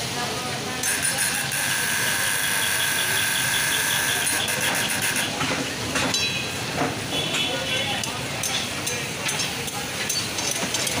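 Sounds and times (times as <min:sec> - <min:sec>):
food frying in a wok: 0:00.0 - 0:11.0.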